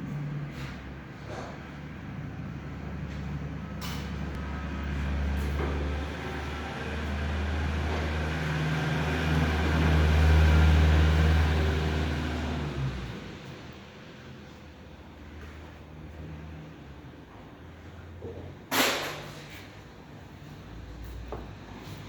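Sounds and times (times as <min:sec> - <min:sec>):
engine droning: 0:00.0 - 0:18.7.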